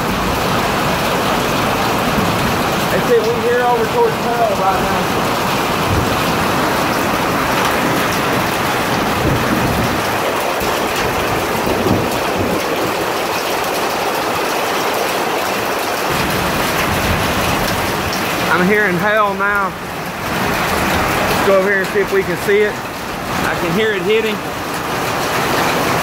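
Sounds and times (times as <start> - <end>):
rain drumming on metal roof: 0.0 - 26.0
wind: 0.0 - 26.0.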